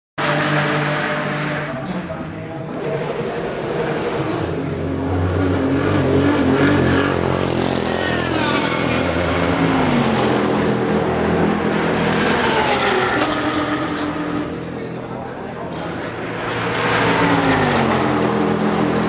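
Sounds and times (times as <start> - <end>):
continuous engine drone: 0.2 - 19.0
race cars passing at speed: 0.2 - 19.0.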